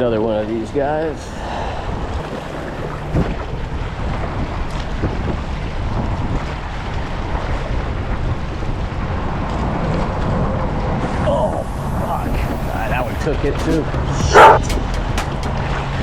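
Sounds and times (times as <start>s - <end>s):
wind buffeting microphone: 0.8s - 16.0s
waves washing: 1.0s - 16.0s.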